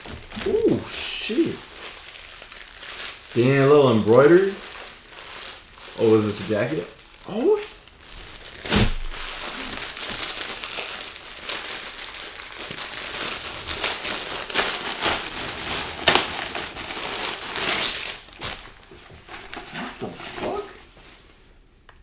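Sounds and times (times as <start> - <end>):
plastic packaging crinkling: 0.0 - 20.9.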